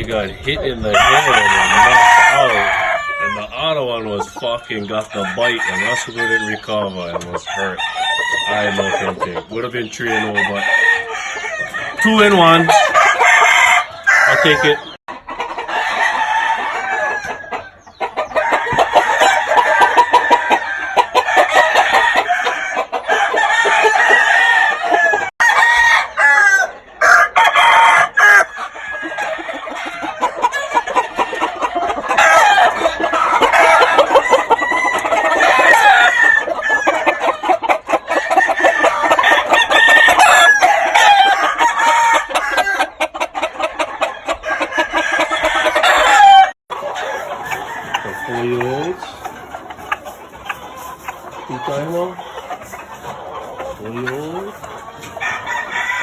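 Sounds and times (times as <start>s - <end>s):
chickens clucking: 0.0s - 56.0s
roosters crowing: 0.0s - 56.0s.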